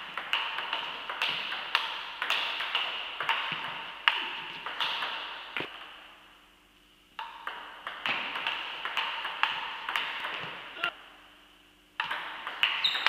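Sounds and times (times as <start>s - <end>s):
ping pong ball hits: 0.0s - 6.0s, 7.2s - 10.9s, 12.0s - 13.0s.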